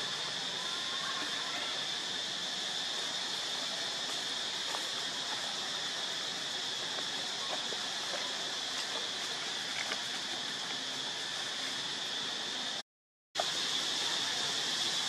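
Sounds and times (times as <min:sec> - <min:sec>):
insects droning: 0:00.0 - 0:12.8, 0:13.4 - 0:15.0.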